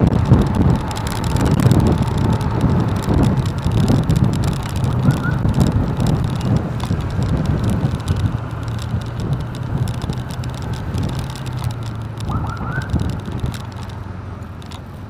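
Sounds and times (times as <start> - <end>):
motorcycle engine running: 0.0 - 15.0
road noise: 0.0 - 15.0
high rising squeaks: 0.4 - 14.0.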